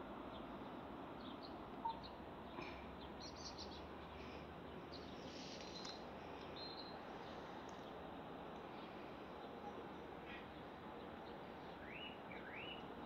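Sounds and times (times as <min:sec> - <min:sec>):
steady background hiss: 0:00.0 - 0:13.0
small birds chirping: 0:00.3 - 0:13.0.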